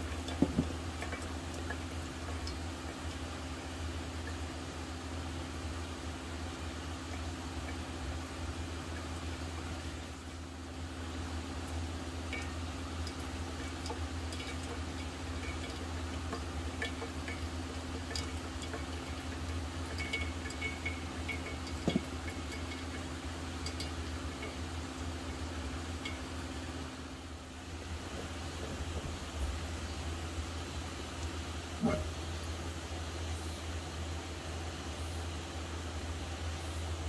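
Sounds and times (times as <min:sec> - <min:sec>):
kettle and mug clinking: 0:00.0 - 0:32.4
hot water trickling into mug: 0:00.0 - 0:32.6
low hum and hiss: 0:00.0 - 0:37.0.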